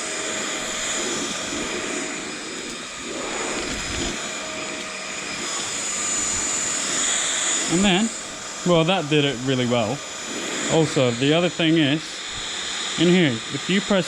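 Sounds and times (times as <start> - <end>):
stick vacuum running: 0.0 - 14.0.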